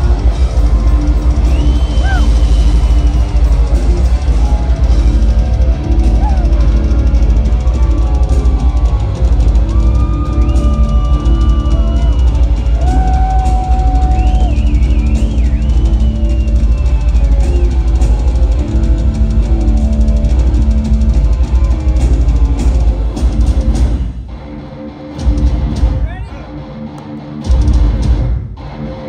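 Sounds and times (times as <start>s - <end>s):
fast pounding drums and bass: 0.0s - 24.5s, 25.2s - 26.4s, 27.4s - 28.8s
distorted lead electric guitar: 0.0s - 29.0s.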